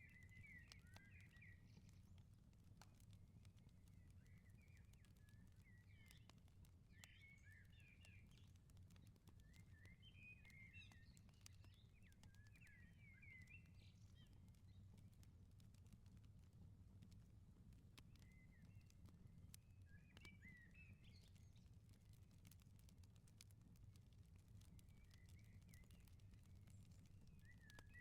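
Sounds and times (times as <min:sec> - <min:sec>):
small birds chirping: 0:00.0 - 0:15.7, 0:17.9 - 0:28.0
wood fire crackling and popping: 0:00.1 - 0:28.0.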